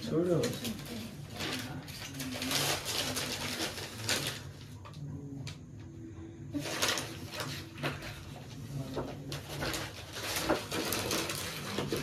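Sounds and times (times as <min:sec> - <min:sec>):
paper rustling and crinkling: 0:00.0 - 0:05.6, 0:06.5 - 0:12.0.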